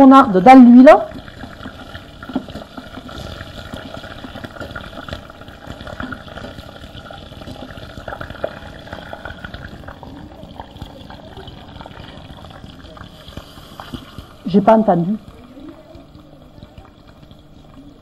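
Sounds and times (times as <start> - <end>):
leaves bubbling in oil: 0.0 - 18.0.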